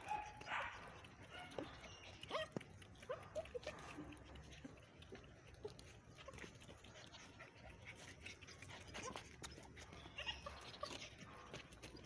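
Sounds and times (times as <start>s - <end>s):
puppy whimpering: 1.3s - 12.0s.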